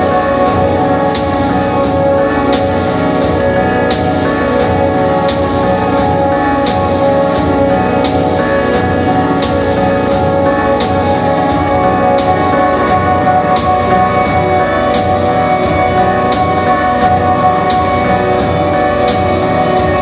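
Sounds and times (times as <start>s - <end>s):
sustained drone chords: 0.0s - 20.0s.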